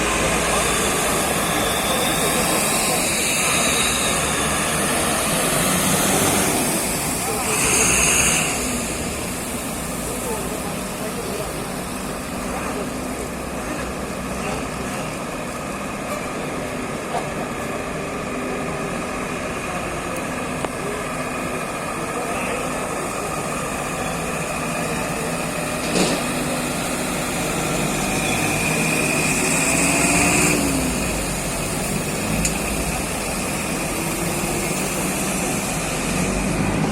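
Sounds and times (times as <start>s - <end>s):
vehicle engines running: 0.0s - 36.9s.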